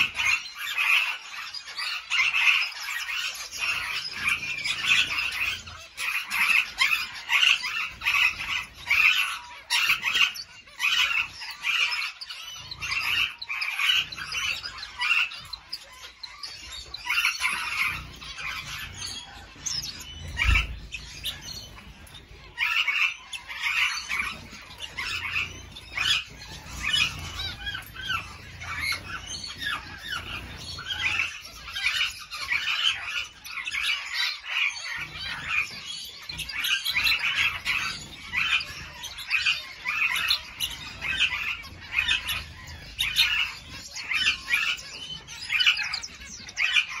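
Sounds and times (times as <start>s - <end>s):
birds chirping and calling: 0.0s - 47.0s.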